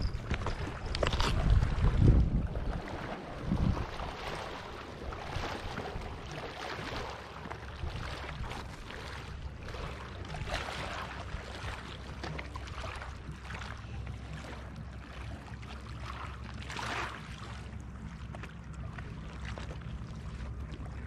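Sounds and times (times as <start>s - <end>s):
lake waves washing on rocks: 0.0s - 17.7s
wind rumbling over microphone: 0.0s - 21.0s.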